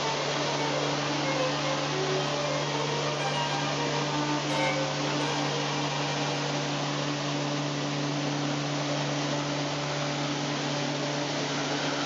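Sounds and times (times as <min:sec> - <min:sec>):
constant low hum: 0:00.0 - 0:12.0
fans whirring: 0:00.0 - 0:12.0.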